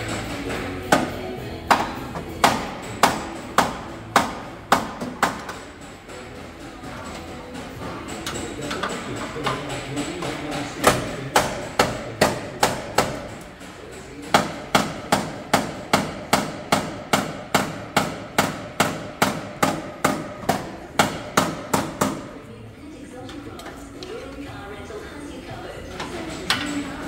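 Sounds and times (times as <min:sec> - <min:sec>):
hammer blows on car metal: 0:00.0 - 0:22.4.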